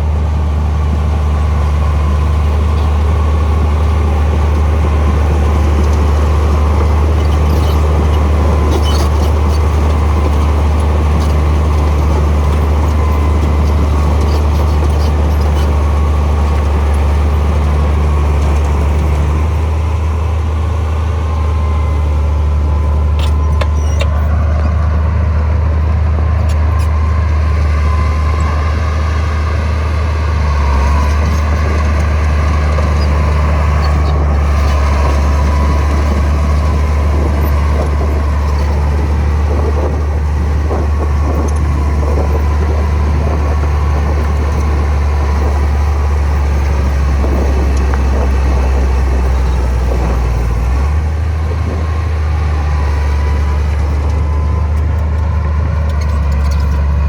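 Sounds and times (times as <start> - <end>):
diesel machinery engine drone: 0.0 - 57.0.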